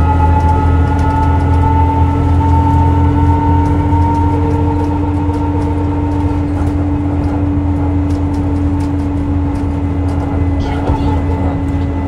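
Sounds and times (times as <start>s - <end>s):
diesel bus engine running: 0.0s - 12.0s.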